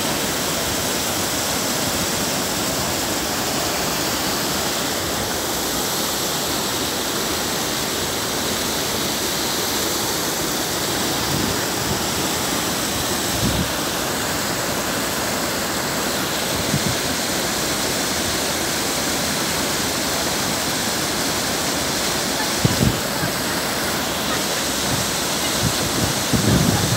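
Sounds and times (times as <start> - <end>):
floodwater rushing: 0.0 - 26.9.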